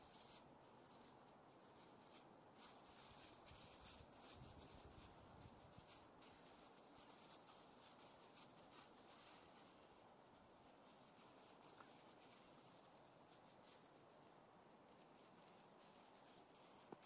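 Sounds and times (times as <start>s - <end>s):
scratchy rustling: 0.0s - 17.0s
steady hiss: 0.0s - 17.0s.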